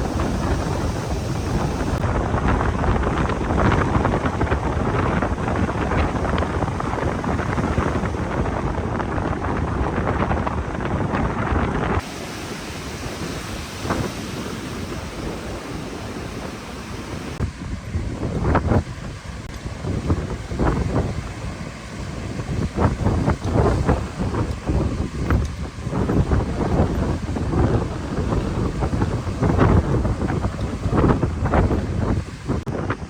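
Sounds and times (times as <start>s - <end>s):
strong wind on microphone: 0.0s - 33.0s.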